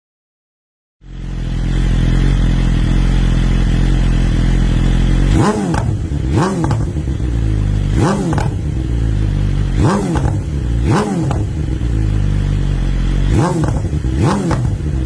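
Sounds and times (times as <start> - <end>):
motorcycle engine idling: 1.0 - 15.0
motorcycle engine revving: 1.0 - 15.0.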